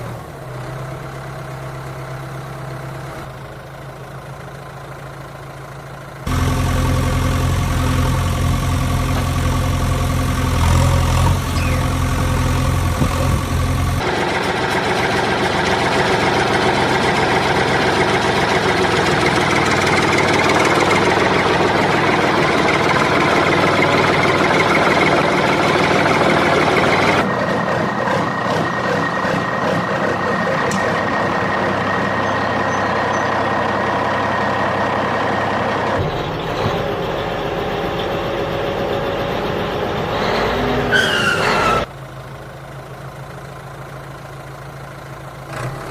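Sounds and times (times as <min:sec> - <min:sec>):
heavy engine running: 0:00.0 - 0:45.9.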